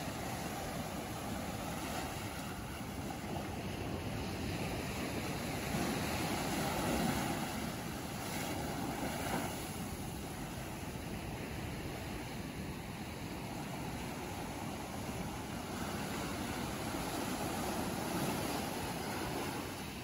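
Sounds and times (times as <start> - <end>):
surf washing up sand beach: 0.0 - 20.0.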